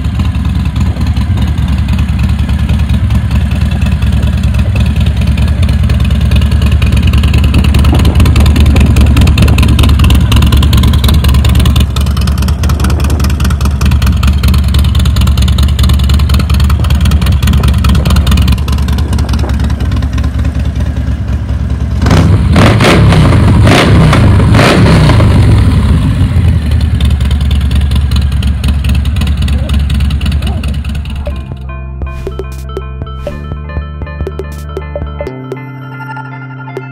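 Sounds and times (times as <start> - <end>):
motorcycle engine idling and revving: 0.0 - 35.6.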